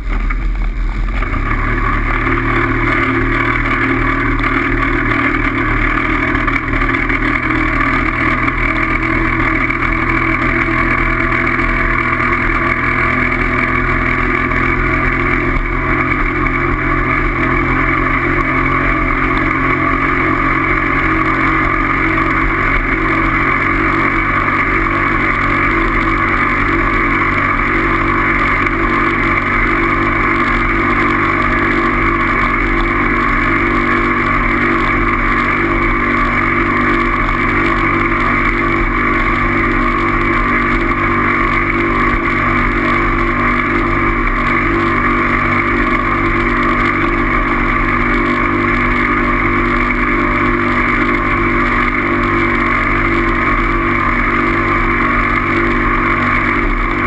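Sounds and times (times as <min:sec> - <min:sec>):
steady vehicle drone: 0:00.0 - 0:57.0.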